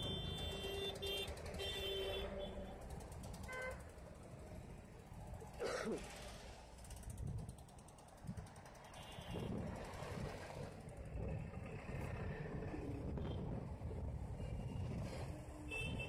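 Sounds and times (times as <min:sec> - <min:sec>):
rumble of highway traffic: 0:00.0 - 0:16.0.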